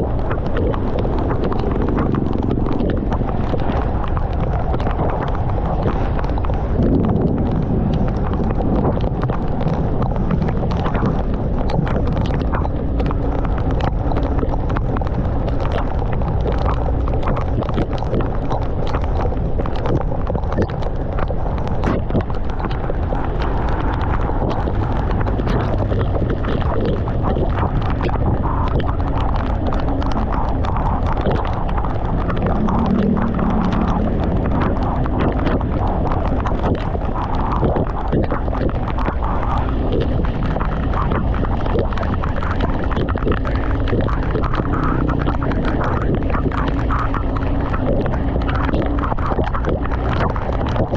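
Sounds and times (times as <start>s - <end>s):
raindrops tapping microphone: 0.0s - 50.9s
wind and engine rumble: 0.0s - 50.9s.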